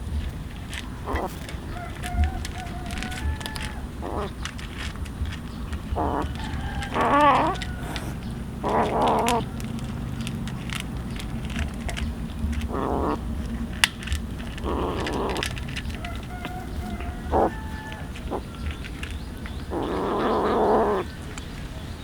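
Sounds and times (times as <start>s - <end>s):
animal harsh cries: 0.8s - 10.3s, 12.5s - 21.3s.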